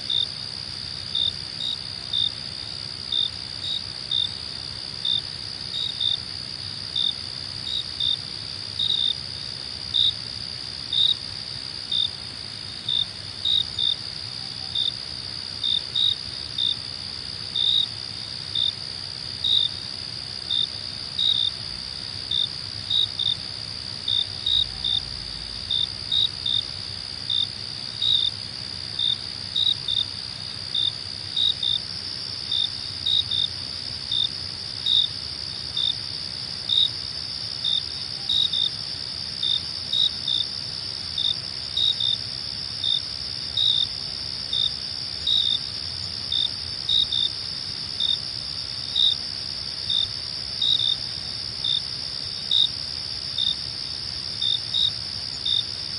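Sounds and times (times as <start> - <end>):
insect chirps: 0.0 - 55.9
insects trilling: 0.0 - 55.9.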